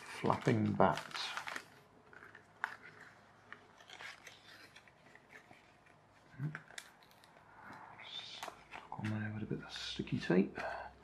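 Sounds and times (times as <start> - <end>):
cellophane crinkling: 0.0 - 9.4.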